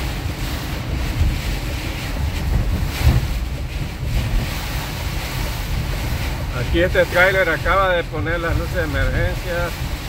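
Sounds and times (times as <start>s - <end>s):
heavy rain on van: 0.0s - 10.0s
wind buffeting van: 0.0s - 10.0s.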